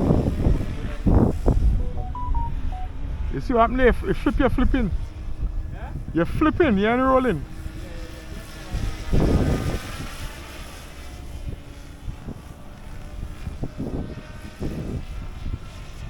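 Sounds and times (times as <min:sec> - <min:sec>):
rc helicopter rotor drone: 0:00.0 - 0:16.0.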